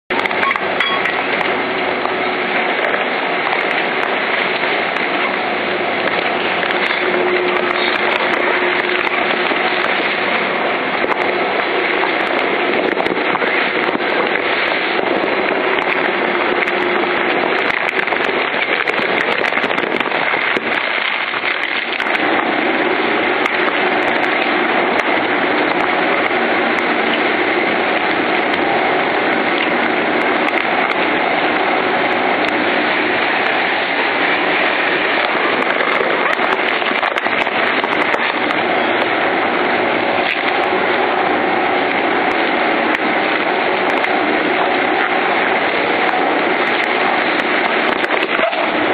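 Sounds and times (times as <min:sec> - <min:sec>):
machine hum: 0:00.1 - 0:48.9.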